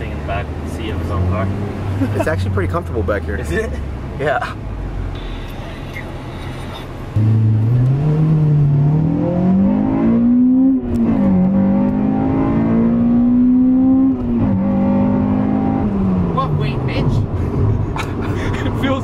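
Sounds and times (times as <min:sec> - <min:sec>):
car engine accelerating hard: 0:00.0 - 0:05.6, 0:06.5 - 0:19.0.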